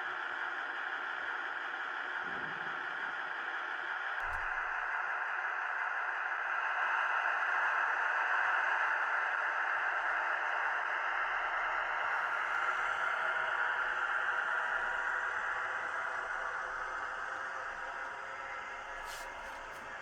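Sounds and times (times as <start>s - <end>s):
model train running on track: 0.0s - 4.2s, 4.8s - 20.0s.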